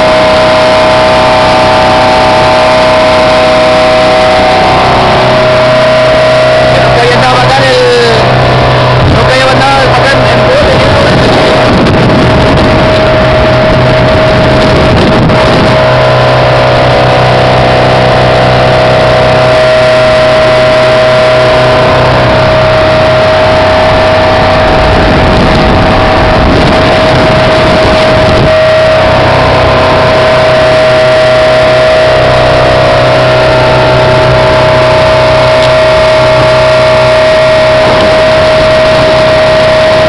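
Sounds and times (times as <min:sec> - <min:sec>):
loud rushing noise: 0:00.0 - 0:40.0
speedboat engine whine: 0:00.0 - 0:40.0.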